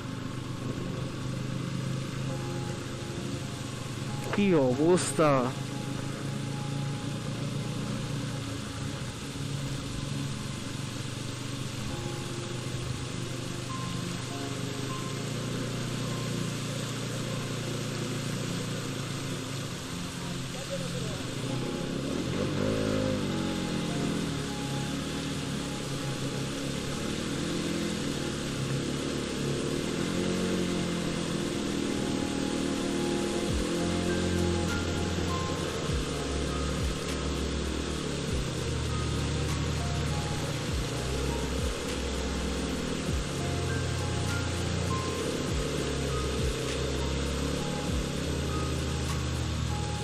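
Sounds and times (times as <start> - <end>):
even hiss: 0.0 - 50.0
motorcycle engine running: 0.0 - 50.0.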